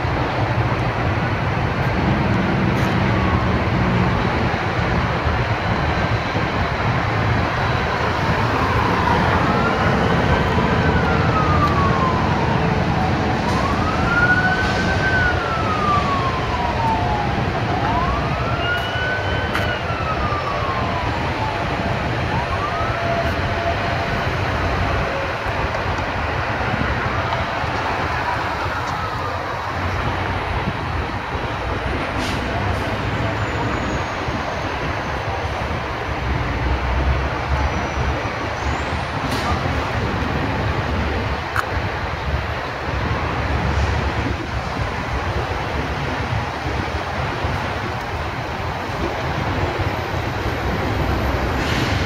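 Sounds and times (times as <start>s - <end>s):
emergency siren wailing: 0.0s - 52.0s
traffic rumble: 0.0s - 52.0s.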